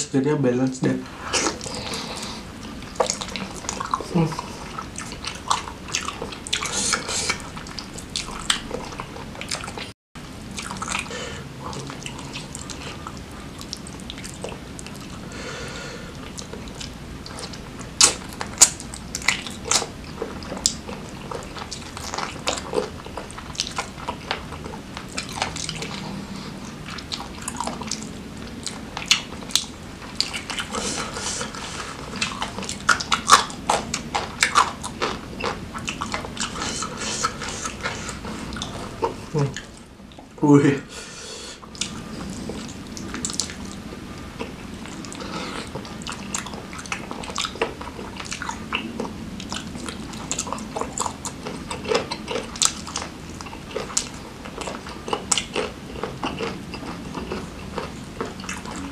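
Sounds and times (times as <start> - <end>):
chewing and mouth clicks: 1.3 - 9.9, 10.5 - 15.2, 16.1 - 40.3, 41.6 - 58.9.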